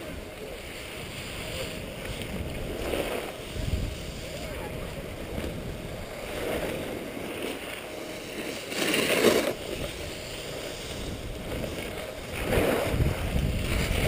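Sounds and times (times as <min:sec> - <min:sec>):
wind buffeting microphone: 0:00.0 - 0:08.4, 0:09.4 - 0:14.0
skis sliding over packed snow: 0:00.0 - 0:14.0.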